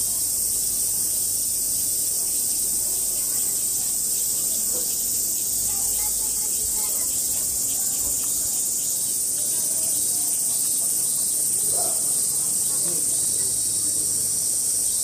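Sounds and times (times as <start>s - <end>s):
cicadas buzzing: 0.0s - 15.0s
faint distant voices: 0.0s - 15.0s.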